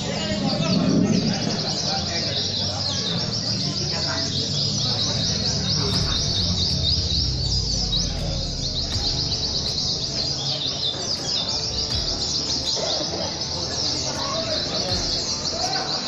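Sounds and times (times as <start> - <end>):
chorus of birds chirping: 0.0 - 16.0.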